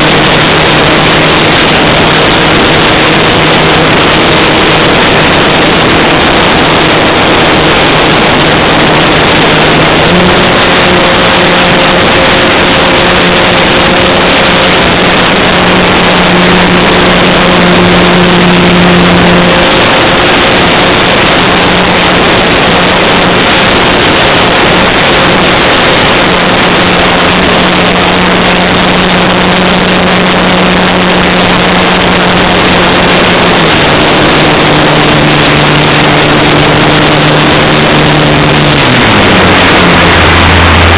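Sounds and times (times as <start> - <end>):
loud even hiss: 0.0 - 40.9
model plane propeller hum: 0.0 - 40.9.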